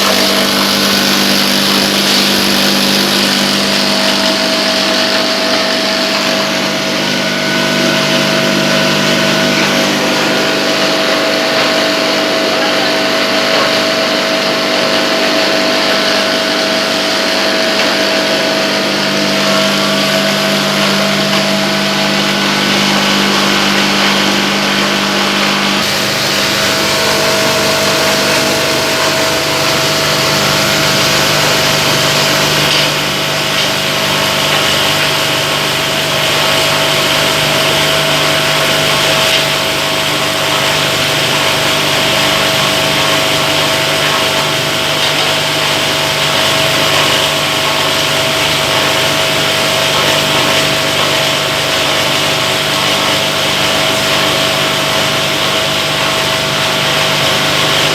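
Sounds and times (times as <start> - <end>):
waste grinder running: 0.0 - 57.9.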